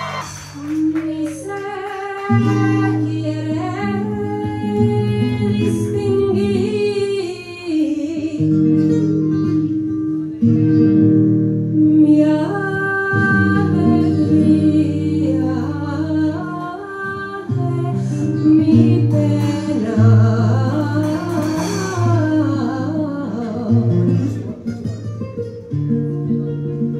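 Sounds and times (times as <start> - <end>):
flamenco guitar: 0.0 - 26.9
person singing flamenco: 0.0 - 26.9.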